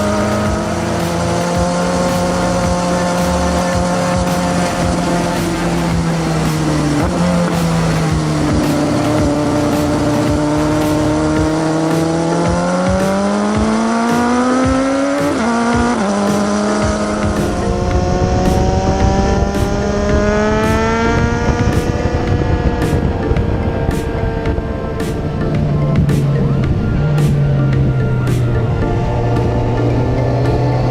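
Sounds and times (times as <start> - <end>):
motorcycle engine accelerating: 0.0 - 30.9.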